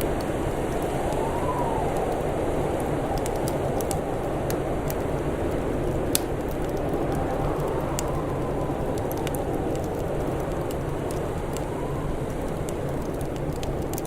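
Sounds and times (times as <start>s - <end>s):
wind rushing and howling: 0.0s - 14.0s
wood fire crackling: 0.0s - 14.0s.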